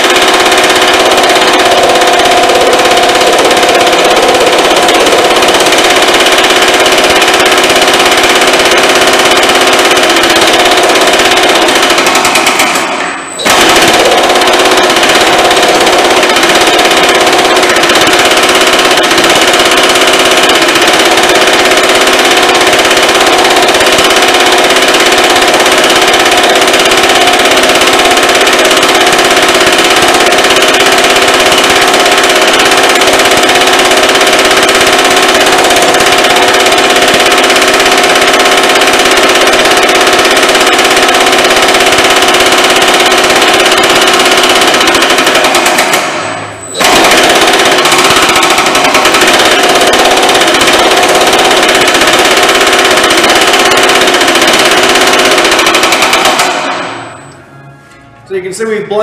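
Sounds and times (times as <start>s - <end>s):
power hammer pounding sheet metal: 0.0s - 57.1s.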